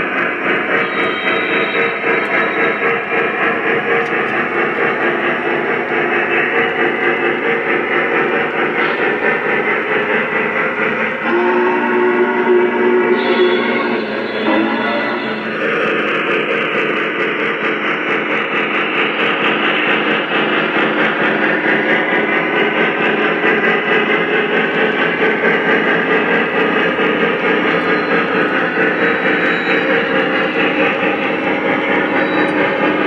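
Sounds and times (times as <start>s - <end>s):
model train rumbling past: 0.0s - 33.0s.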